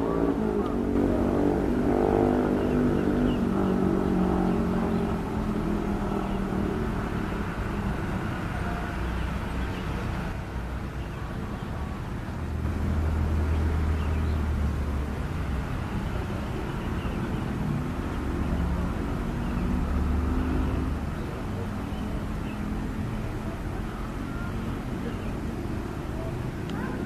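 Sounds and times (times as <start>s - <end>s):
deep drone: 0.0s - 27.0s.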